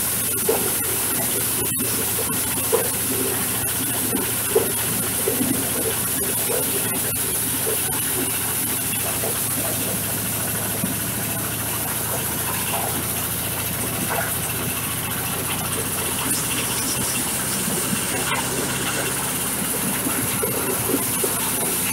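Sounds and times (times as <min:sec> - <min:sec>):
corn sheller humming and churning: 0:00.0 - 0:21.9.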